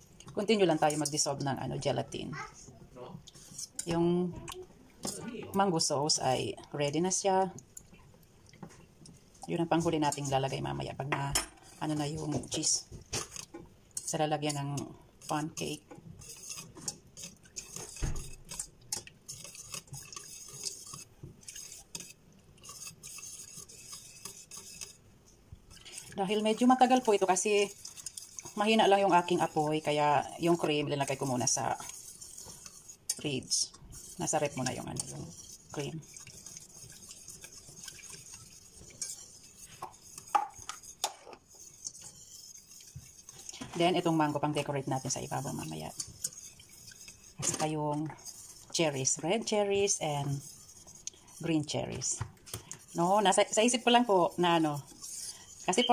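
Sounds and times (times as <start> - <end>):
whisk clicking in metal saucepan: 0.2 - 1.5, 3.3 - 4.2, 9.0 - 55.9.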